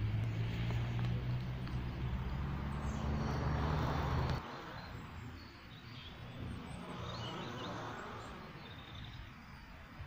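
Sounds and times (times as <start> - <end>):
small birds chirping faintly: 0.0 - 10.0.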